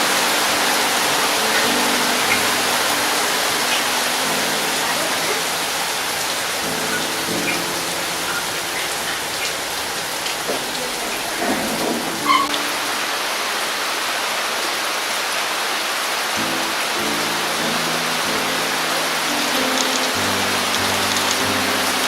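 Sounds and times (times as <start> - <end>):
rain falling steadily: 0.0 - 22.0.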